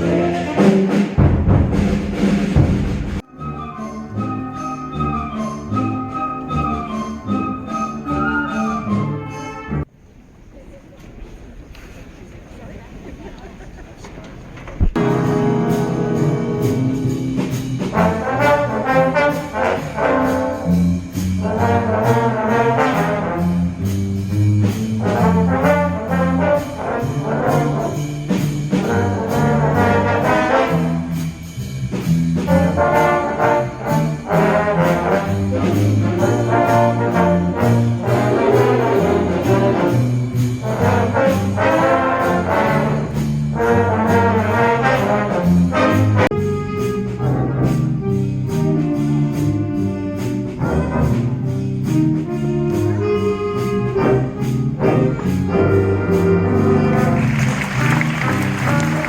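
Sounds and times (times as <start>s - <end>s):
concert band playing: 0.0s - 9.8s, 14.8s - 59.0s
trombones and trumpets: 0.0s - 9.9s, 14.9s - 59.0s.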